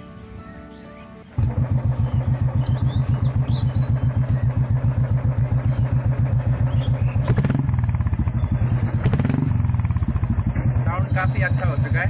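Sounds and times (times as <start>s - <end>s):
motorcycle engine thumping: 1.3s - 12.0s.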